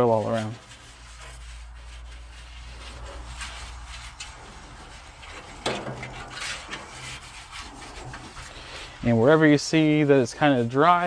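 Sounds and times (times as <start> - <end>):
metal spatula scraping griddle: 0.0 - 10.8.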